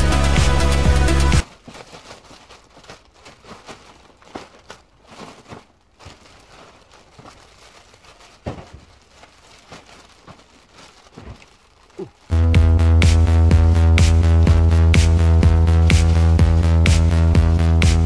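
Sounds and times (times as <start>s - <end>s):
plastic wrapping crinkling: 1.4s - 12.5s, 13.5s - 18.0s.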